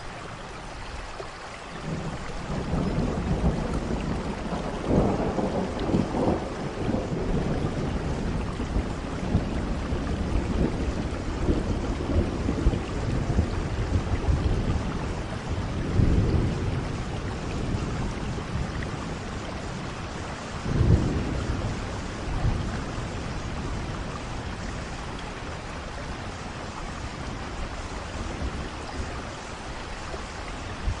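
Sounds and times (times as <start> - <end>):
steady rushing rain-like noise: 0.0 - 31.0.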